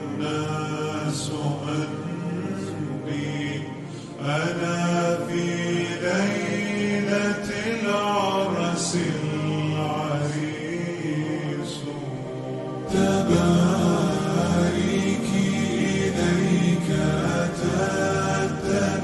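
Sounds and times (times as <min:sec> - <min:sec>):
man singing with reverb: 0:00.0 - 0:19.0.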